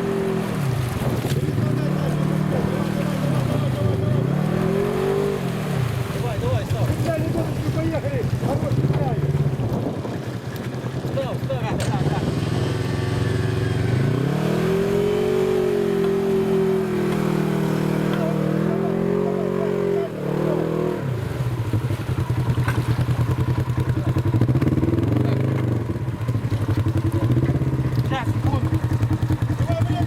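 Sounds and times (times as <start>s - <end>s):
vehicle engine revving: 0.0s - 9.9s, 11.1s - 30.0s.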